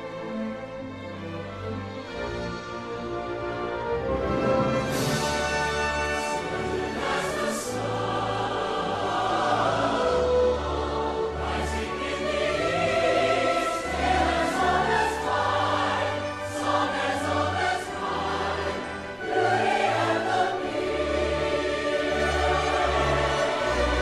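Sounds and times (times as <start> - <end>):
orchestral music: 0.0 - 24.0
choir singing: 4.6 - 24.0.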